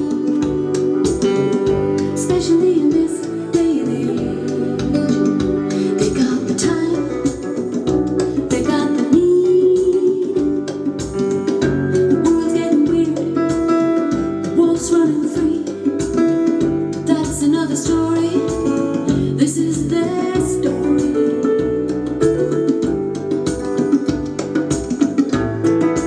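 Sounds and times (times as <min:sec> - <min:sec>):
held melody line: 0:00.0 - 0:26.0
song with guitar: 0:00.0 - 0:26.0.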